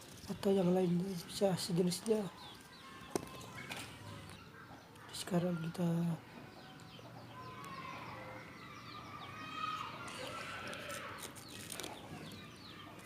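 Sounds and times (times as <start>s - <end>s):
chickens clucking and chirping: 2.0s - 13.0s.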